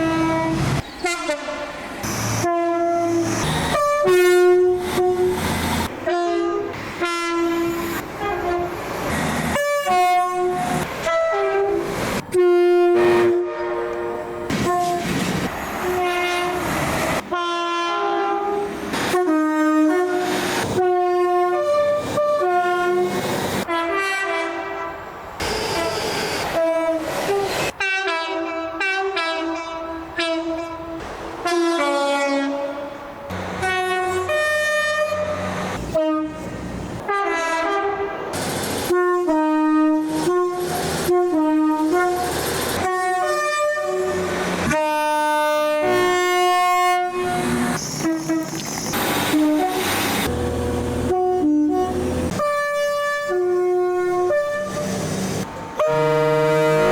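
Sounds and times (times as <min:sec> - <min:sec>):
train horn blasts: 0:00.0 - 0:01.8, 0:02.4 - 0:05.3, 0:06.0 - 0:08.8, 0:09.5 - 0:15.1, 0:15.8 - 0:16.7, 0:17.3 - 0:38.3, 0:38.9 - 0:48.5, 0:49.3 - 0:55.1, 0:55.8 - 0:56.9
train running noise: 0:00.0 - 0:56.9.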